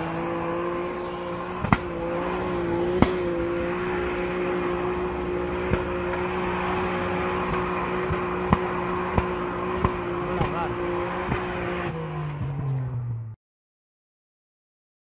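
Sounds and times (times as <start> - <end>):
off-road vehicle engine at steady revs: 0.0 - 13.4.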